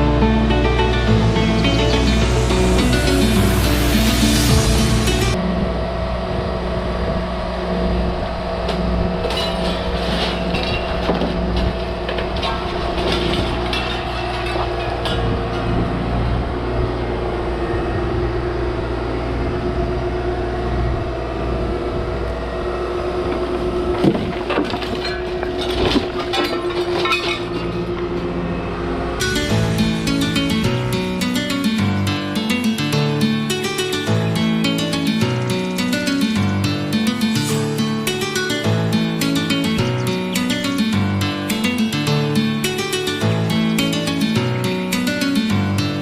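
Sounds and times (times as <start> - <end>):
high whine: 0.0 - 45.9
excavator diesel engine running: 0.0 - 46.0.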